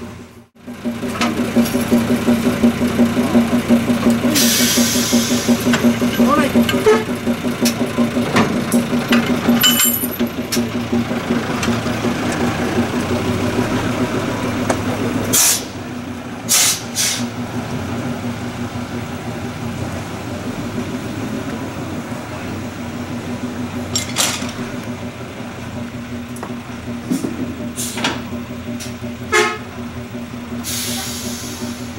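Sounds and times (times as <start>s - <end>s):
diesel locomotive engine drone: 0.0s - 31.9s
wheels clicking on track: 0.6s - 31.9s.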